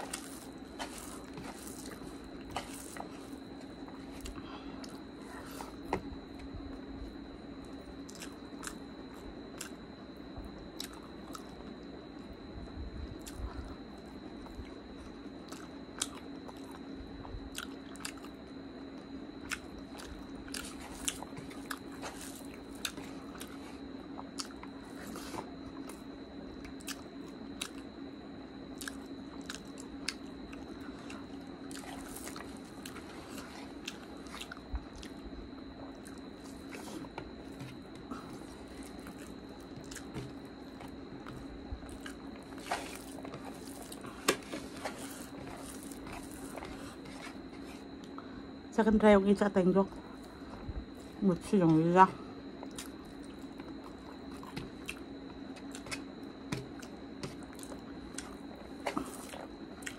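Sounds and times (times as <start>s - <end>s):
chewing with wet mouth sounds: 0.0s - 27.9s, 28.7s - 48.2s, 52.5s - 59.9s
faint steady hum: 0.0s - 59.9s.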